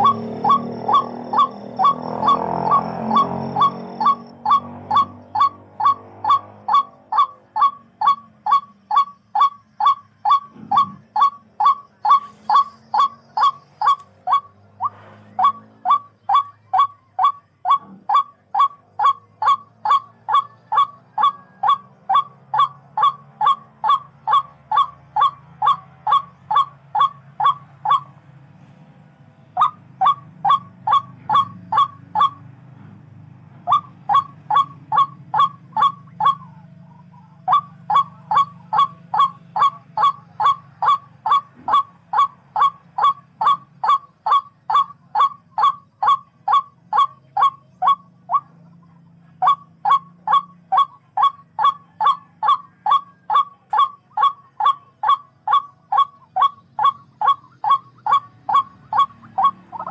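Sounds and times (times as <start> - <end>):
rail bird calling: 0.0 - 28.2, 29.5 - 32.6, 33.5 - 59.9.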